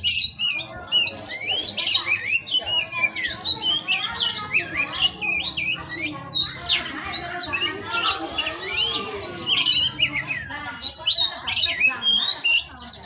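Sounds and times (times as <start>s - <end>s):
bird singing varied whistles: 0.0s - 13.0s.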